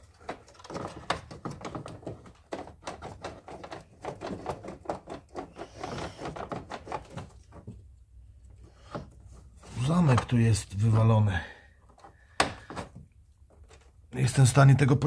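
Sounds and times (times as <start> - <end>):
hands handling plastic parts: 0.0 - 14.4.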